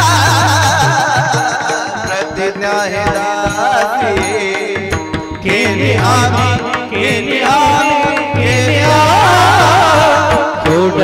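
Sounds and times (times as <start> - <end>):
devotional song melody: 0.0 - 11.0
hand drum beat: 0.0 - 11.0.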